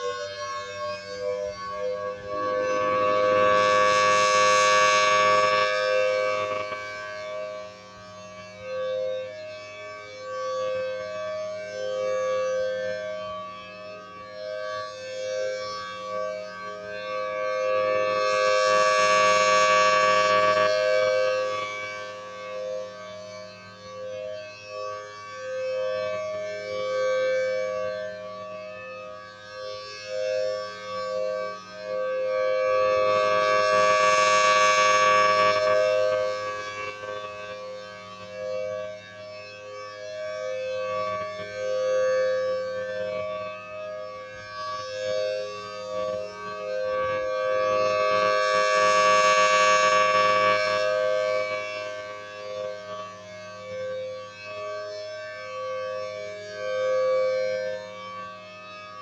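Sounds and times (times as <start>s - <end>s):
warning siren: 0.0s - 59.0s.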